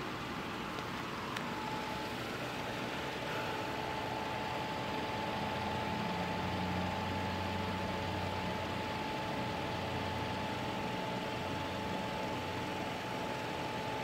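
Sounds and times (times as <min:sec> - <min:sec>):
faint high whine: 0:00.0 - 0:14.0
machine hum: 0:00.0 - 0:14.0.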